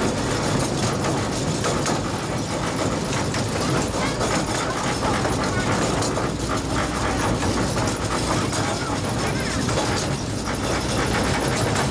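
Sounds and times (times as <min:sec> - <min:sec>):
small clicks and clatter: 0:00.0 - 0:11.9
train wheels rumbling on track: 0:00.0 - 0:11.9.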